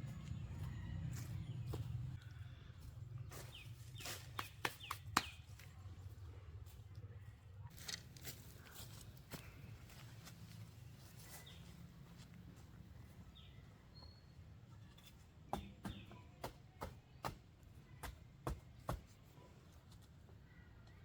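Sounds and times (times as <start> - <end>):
outdoor background: 0.0 - 21.0.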